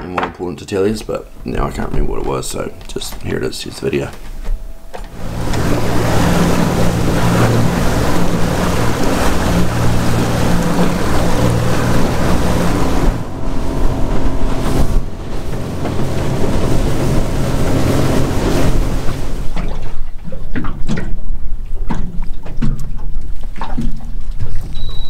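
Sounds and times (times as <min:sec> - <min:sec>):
water rushing along hull: 0:00.6 - 0:25.0
motorboat engine hum: 0:00.8 - 0:25.0
wind on microphone: 0:01.2 - 0:24.8.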